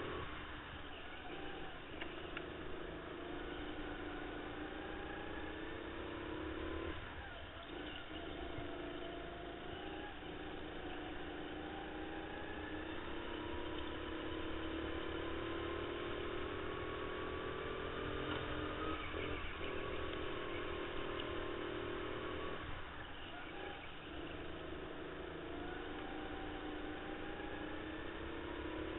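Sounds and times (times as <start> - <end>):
kart engine running hard: 0.0 - 28.9.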